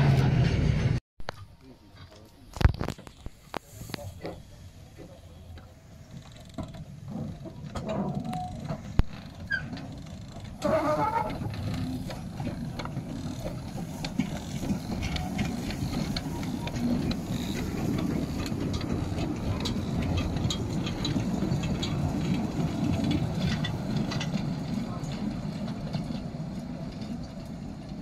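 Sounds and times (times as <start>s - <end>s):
steam locomotive pulling away: 0.0s - 1.0s, 3.3s - 28.0s
train wheels rumbling on rail: 0.0s - 1.0s, 3.0s - 28.0s.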